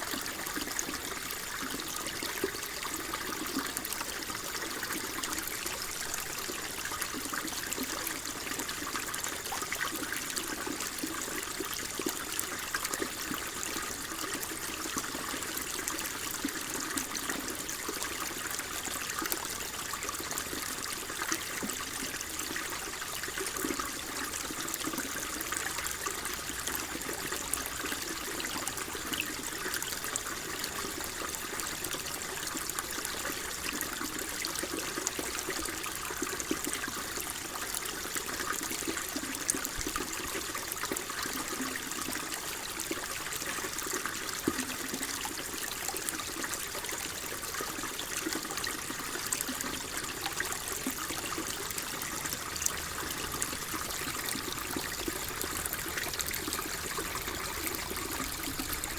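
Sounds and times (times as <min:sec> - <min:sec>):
water flowing and trickling: 0:00.0 - 0:58.9.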